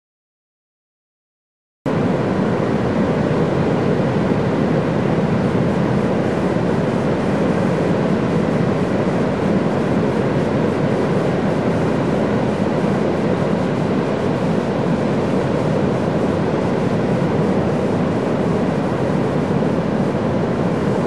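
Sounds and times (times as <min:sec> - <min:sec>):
wind: 0:01.9 - 0:21.0.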